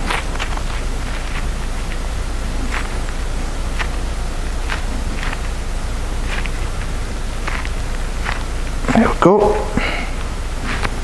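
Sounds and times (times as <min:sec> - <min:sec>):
glove and plastic rustling: 0:00.0 - 0:09.2
steady hiss: 0:00.0 - 0:11.0.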